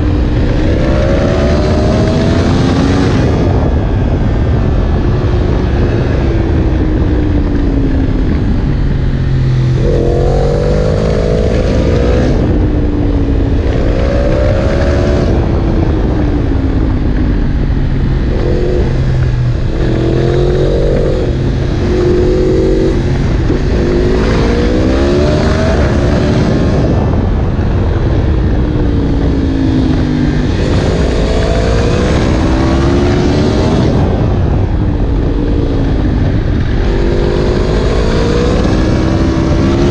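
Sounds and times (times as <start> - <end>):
low rumble: 0.0 - 39.9
motorcycle engine accelerating: 0.0 - 39.9.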